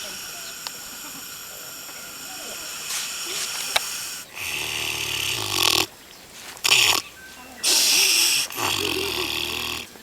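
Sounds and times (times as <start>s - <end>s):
pig snoring: 0.0s - 5.9s, 6.6s - 10.0s
pig snort: 0.0s - 10.0s.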